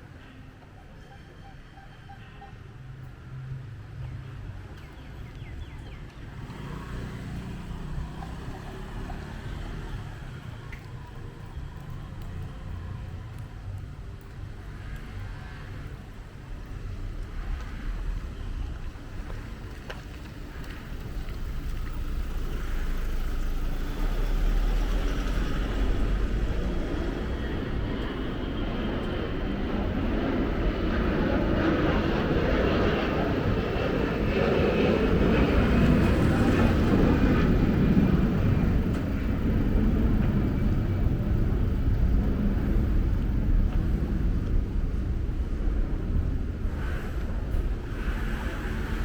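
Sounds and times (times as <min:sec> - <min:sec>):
vehicle rumble: 0:03.3 - 0:49.0.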